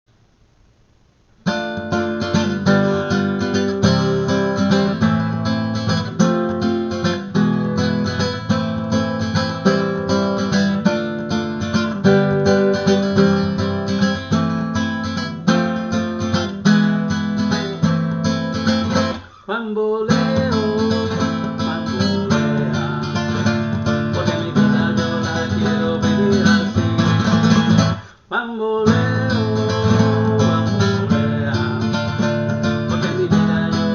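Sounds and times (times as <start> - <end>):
acoustic guitar strumming chords: 1.4 - 33.9.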